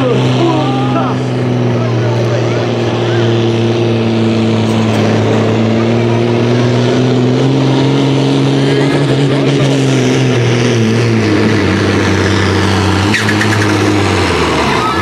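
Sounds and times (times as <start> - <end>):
tractor diesel engine straining: 0.0 - 15.0.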